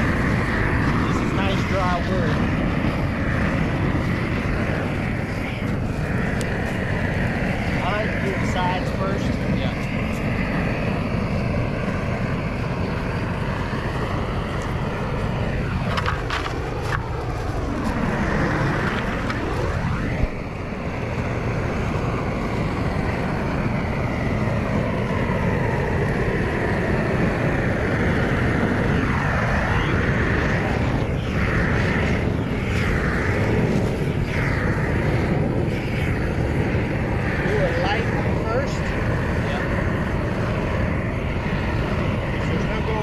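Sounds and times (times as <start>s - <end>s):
propane torch burning: 0.0s - 43.0s.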